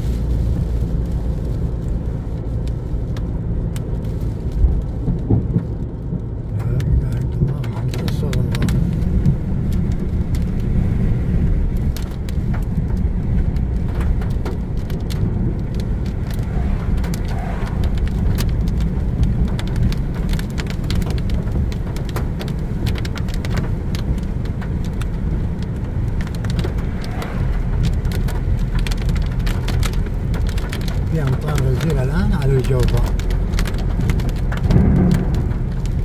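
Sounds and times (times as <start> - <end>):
raindrops ticking on car windshield: 0.0 - 36.0
road and engine rumble: 0.0 - 36.0.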